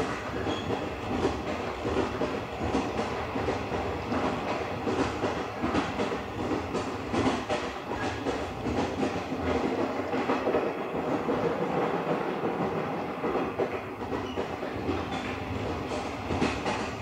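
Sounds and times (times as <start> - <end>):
rail-joint clacks: 0.0 - 17.0.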